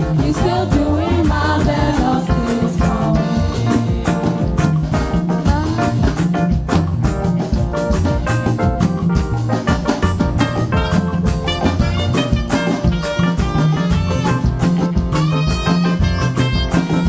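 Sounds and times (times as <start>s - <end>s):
drum kit steady beat: 0.0s - 17.0s
gospel band playing: 0.0s - 17.0s.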